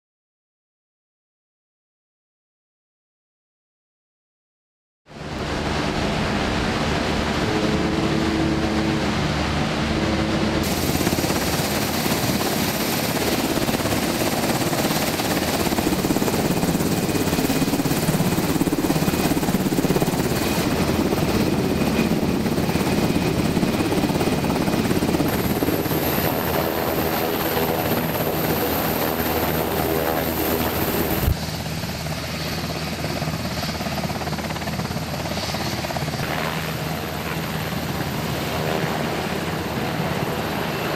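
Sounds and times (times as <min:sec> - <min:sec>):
helicopter turbines and rotors: 0:05.1 - 0:40.9.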